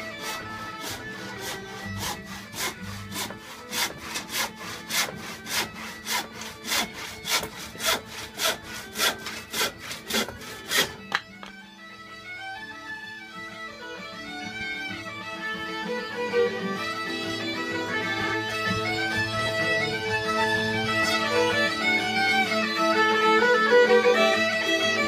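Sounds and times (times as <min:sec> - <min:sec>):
rhythmic scraping strokes: 0:00.0 - 0:11.6, 0:14.8 - 0:25.0
folk music with drone: 0:00.0 - 0:25.0.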